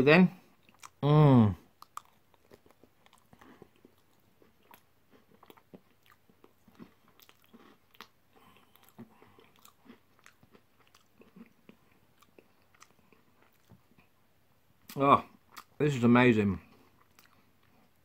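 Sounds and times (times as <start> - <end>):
crunching and chewing food: 0.4 - 15.8, 16.6 - 18.0.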